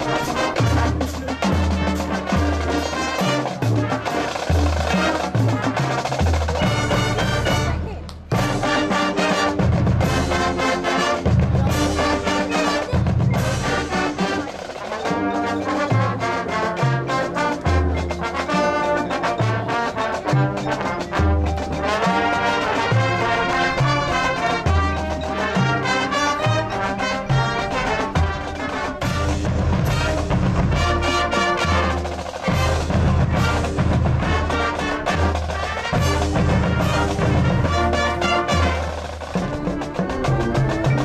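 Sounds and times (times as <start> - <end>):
drums: 0.0 - 41.0
marching band brass: 0.0 - 41.0.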